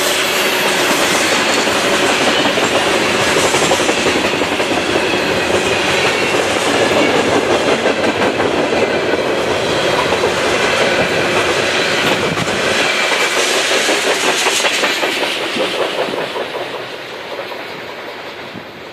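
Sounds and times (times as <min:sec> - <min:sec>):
train wheels clicking over rail joints: 0:00.0 - 0:18.9.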